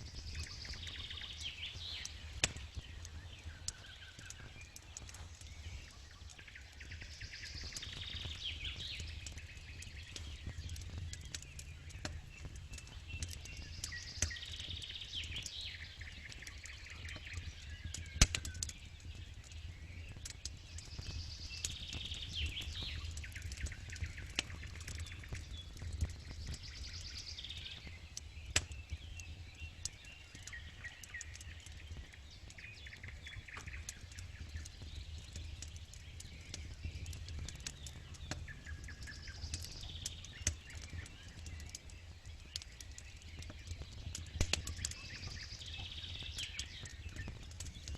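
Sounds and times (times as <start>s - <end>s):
birds singing: 0.0s - 47.9s
campfire crackling and popping: 0.0s - 47.9s.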